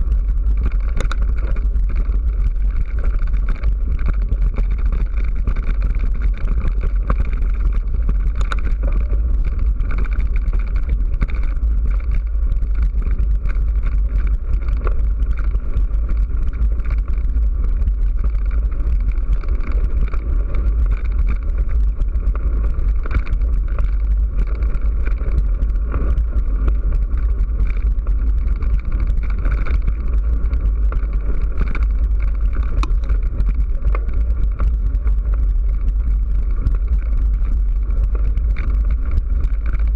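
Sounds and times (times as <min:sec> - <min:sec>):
camera rattling on dirt track: 0:00.0 - 0:39.9
wind buffeting microphone: 0:00.0 - 0:39.9.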